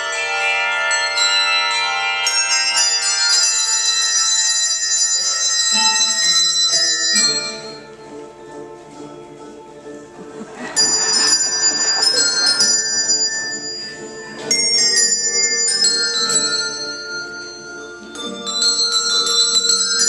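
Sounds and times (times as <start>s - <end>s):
handbell choir ringing: 0.0s - 8.6s, 10.4s - 20.0s.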